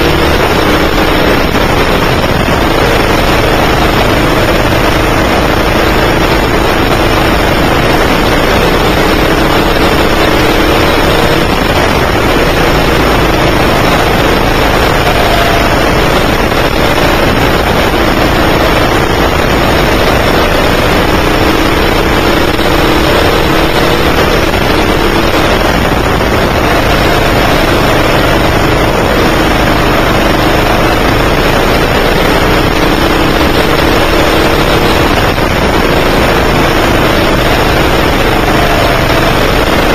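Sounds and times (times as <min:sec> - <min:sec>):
kart engine revving: 0:00.0 - 0:39.9
loud rushing wind: 0:00.0 - 0:39.9.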